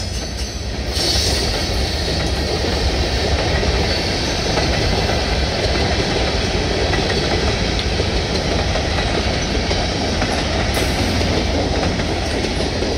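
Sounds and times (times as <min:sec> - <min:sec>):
train wheels rolling on rails: 0:00.0 - 0:12.9.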